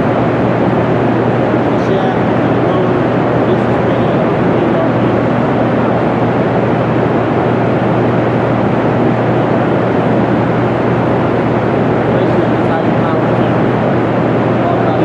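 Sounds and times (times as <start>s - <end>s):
power plant machine hum: 0.0s - 15.0s.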